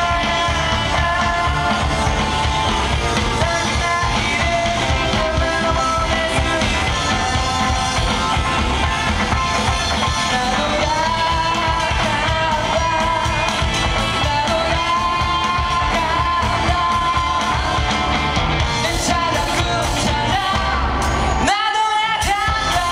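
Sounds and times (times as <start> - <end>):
bass guitar: 0.0 - 22.9
drum kit: 0.0 - 22.9
electric guitars: 0.0 - 22.9
man singing: 0.0 - 22.9.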